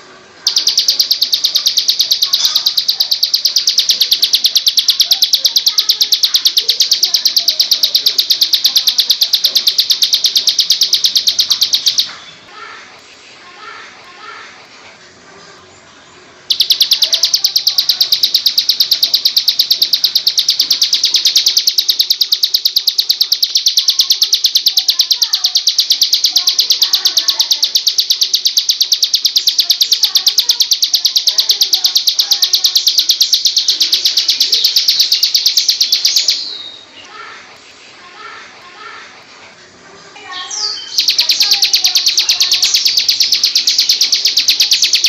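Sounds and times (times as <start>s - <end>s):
songbird staccato trill: 0.4s - 12.2s, 16.5s - 36.8s, 40.6s - 45.0s.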